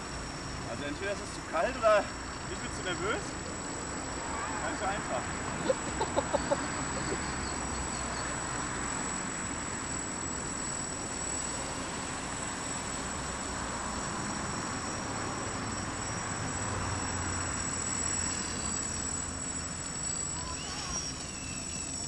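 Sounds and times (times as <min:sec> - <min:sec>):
quadcopter motors buzzing: 0:00.0 - 0:22.0.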